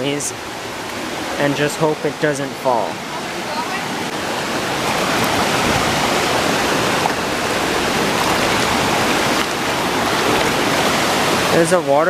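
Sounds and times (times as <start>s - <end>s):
river rushing over rapids: 0.0s - 12.0s.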